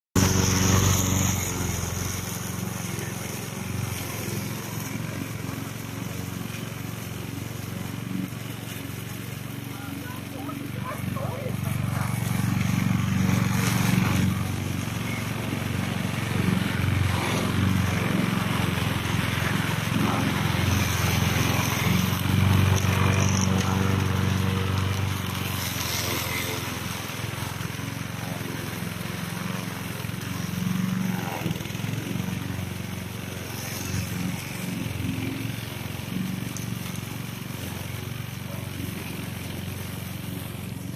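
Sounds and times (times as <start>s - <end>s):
lawn mower engine running: 0.2s - 40.9s.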